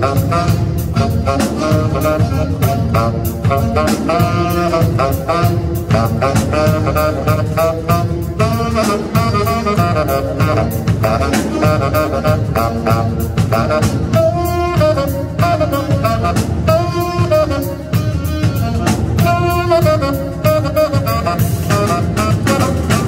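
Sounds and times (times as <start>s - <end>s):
drum kit steady beat: 0.0s - 23.0s
saxophones playing melody: 0.0s - 23.0s.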